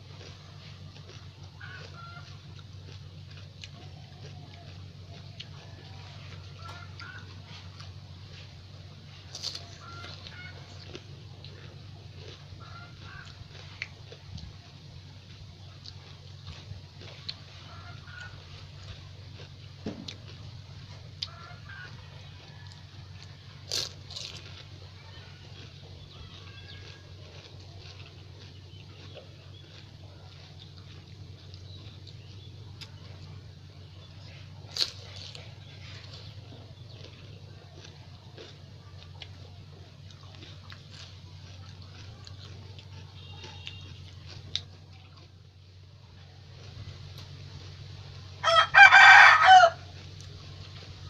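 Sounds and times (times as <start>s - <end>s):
crisp crunch of biting: 0.0s - 51.0s
steady low hum: 0.0s - 51.0s.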